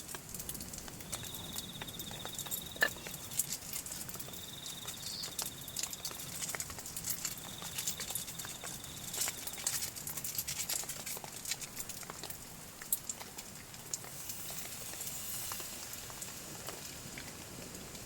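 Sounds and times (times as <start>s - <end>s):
rain hissing: 0.0s - 18.0s
raindrops ticking: 0.0s - 18.0s.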